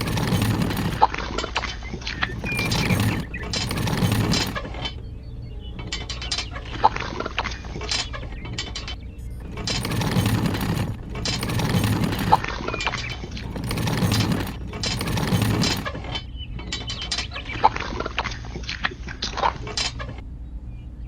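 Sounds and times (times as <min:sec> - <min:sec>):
small gears clicking and rattling: 0:00.0 - 0:05.0, 0:05.8 - 0:20.2
low hum: 0:00.0 - 0:21.0.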